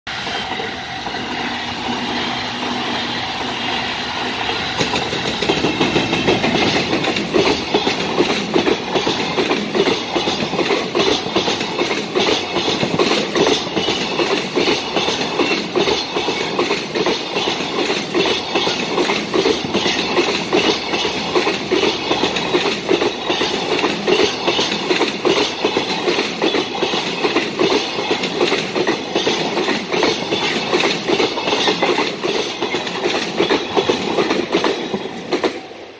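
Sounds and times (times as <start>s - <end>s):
freight train passing: 0.1s - 35.9s
wheels clattering over rail joints: 1.8s - 35.6s.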